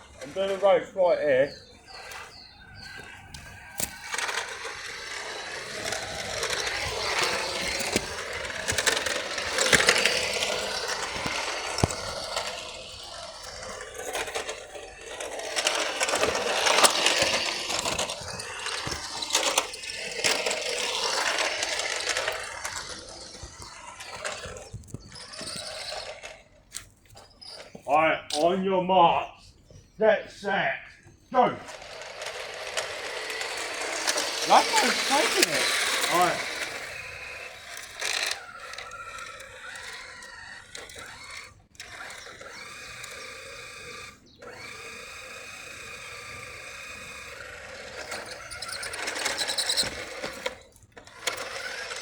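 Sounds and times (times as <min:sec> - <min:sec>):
wheels clicking and rattling: 0:00.0 - 0:28.6, 0:31.0 - 0:52.0
toy car motors whirring: 0:00.0 - 0:52.0.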